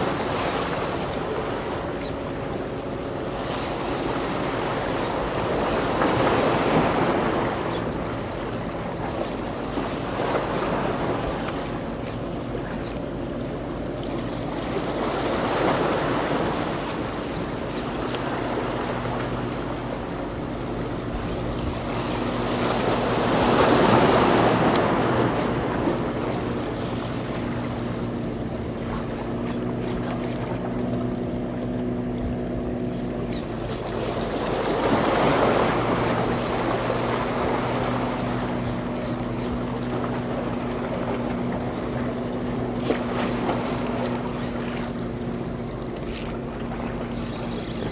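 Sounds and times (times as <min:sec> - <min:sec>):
waves washing against breakwater: 0:00.0 - 0:47.9.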